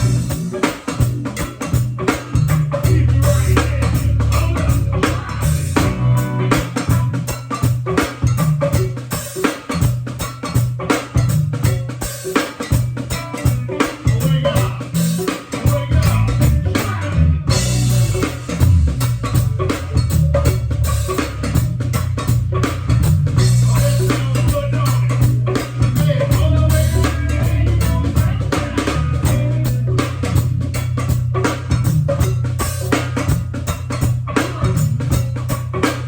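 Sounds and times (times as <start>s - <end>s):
heavy bass line: 0.0s - 12.1s, 12.8s - 36.0s
band playing: 0.0s - 36.0s.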